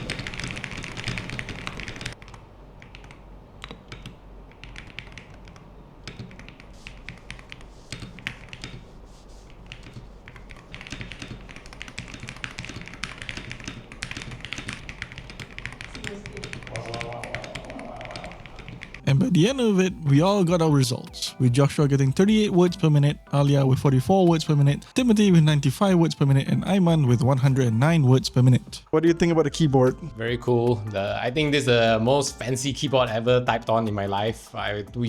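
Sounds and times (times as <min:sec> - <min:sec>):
fast keyboard typing: 0:00.0 - 0:28.8.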